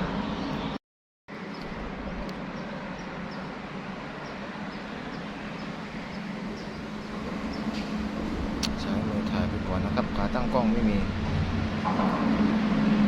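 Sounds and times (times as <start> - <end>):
wind rumbling on microphone: 1.5 - 13.0.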